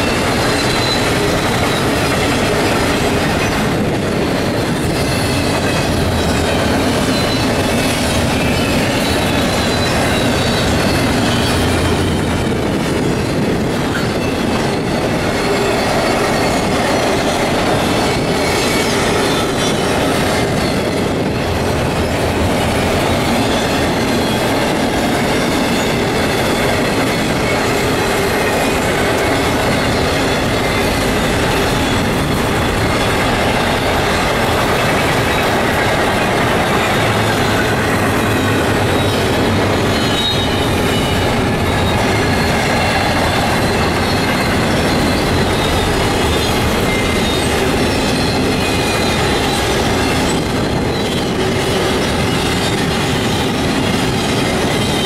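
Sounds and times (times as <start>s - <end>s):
high-pitched wheel squeal: 0.0s - 12.8s, 13.6s - 55.0s
train wheels rumbling on rails: 0.0s - 55.0s.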